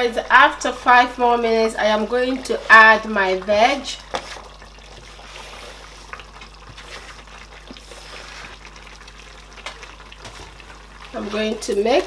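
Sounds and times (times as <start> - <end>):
soup simmering bubbling: 0.4 - 12.0
wooden spoon stirring: 0.9 - 12.0.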